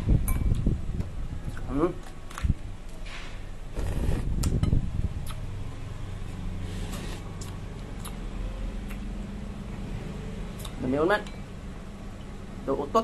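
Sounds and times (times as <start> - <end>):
electric fan humming: 2.1 - 12.9.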